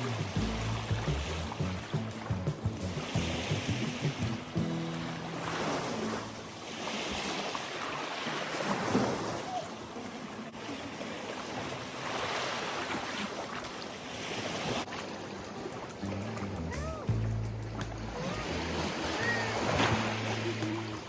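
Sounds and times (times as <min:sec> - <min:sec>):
ocean surf washing ashore: 0:00.0 - 0:21.0.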